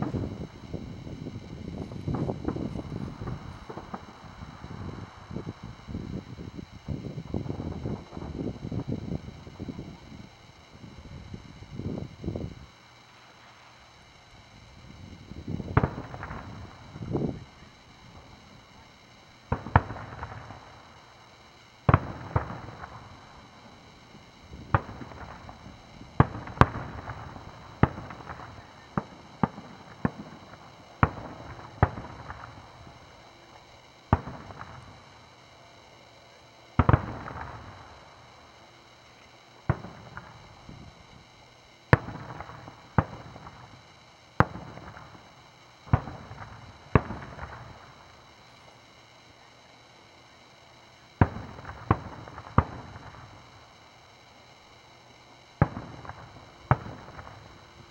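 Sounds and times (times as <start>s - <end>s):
firework shells bursting: 0.0s - 57.9s.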